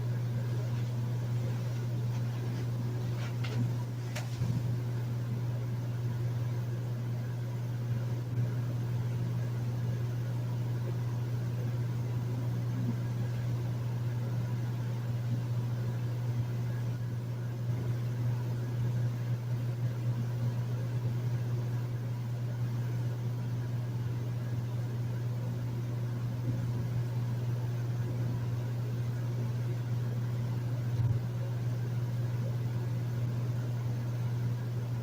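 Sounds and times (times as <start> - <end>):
air conditioner humming: 0.0 - 35.0.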